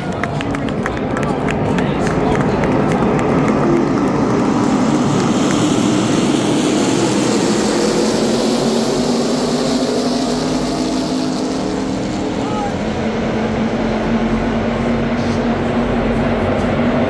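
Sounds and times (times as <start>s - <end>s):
race trucks engines droning: 0.0s - 17.0s
rushing noise: 1.5s - 17.0s.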